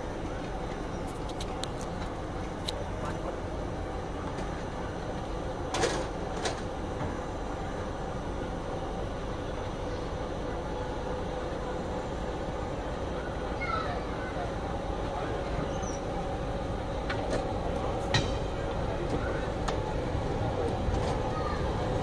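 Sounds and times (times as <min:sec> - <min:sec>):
rumble of wheels on rail: 0:00.0 - 0:22.0.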